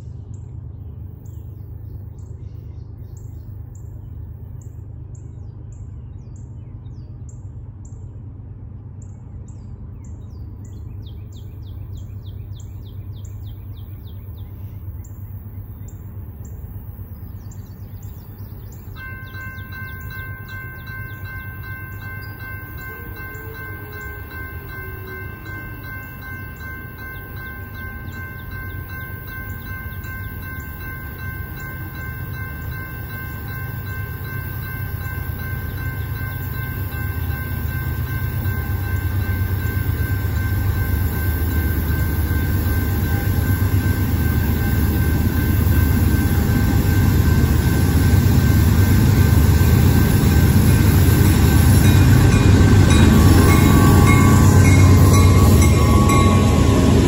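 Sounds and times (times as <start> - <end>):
railroad crossing bells ringing: 0.0 - 5.9, 6.5 - 57.0
freight train rumble: 0.0 - 57.0
birds chirping: 9.5 - 57.0.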